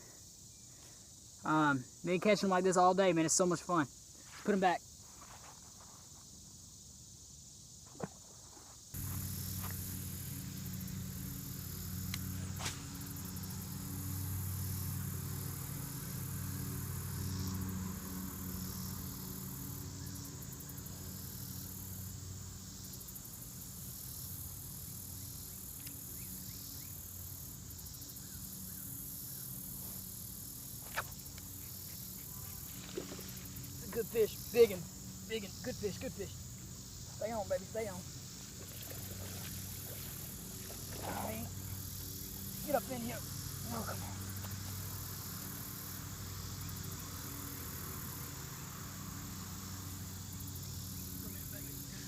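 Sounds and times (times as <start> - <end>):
insects calling: 0.0 - 52.0.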